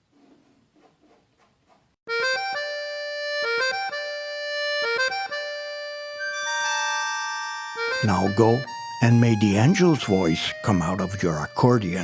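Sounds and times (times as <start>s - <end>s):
accordion melody: 2.1s - 12.0s.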